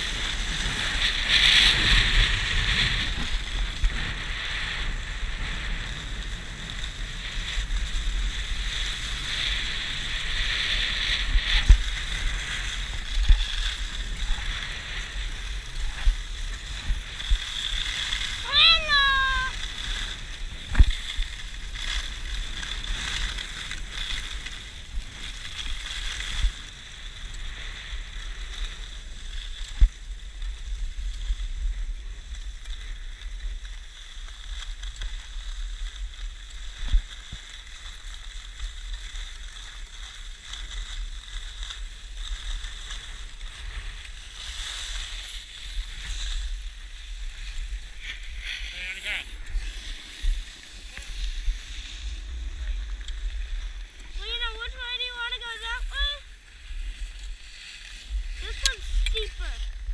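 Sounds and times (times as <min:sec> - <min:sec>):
skis scraping over snow: 0:00.0 - 0:59.9
wind rumbling on microphone: 0:00.0 - 0:59.9.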